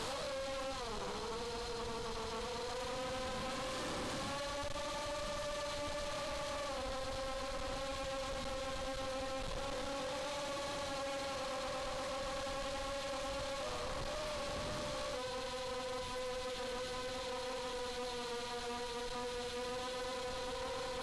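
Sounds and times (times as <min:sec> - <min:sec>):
quadcopter motors buzzing: 0:00.0 - 0:21.0.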